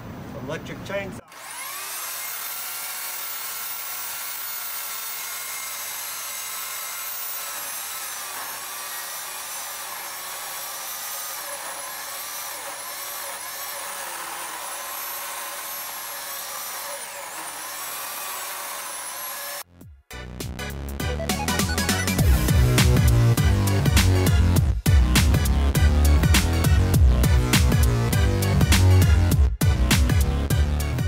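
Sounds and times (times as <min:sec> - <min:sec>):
electric chainsaw cutting log: 0:01.2 - 0:19.7, 0:21.2 - 0:31.0.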